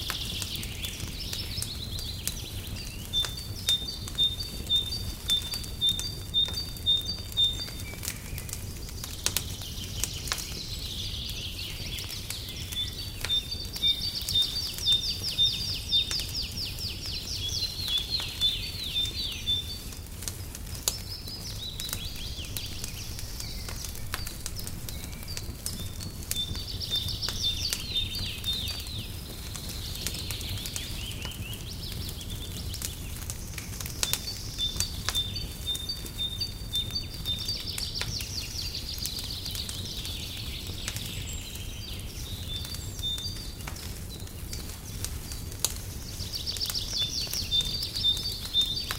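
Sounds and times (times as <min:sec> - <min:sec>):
birds chirping and trilling: 0:00.0 - 0:48.9
wood fire crackling: 0:00.0 - 0:48.9.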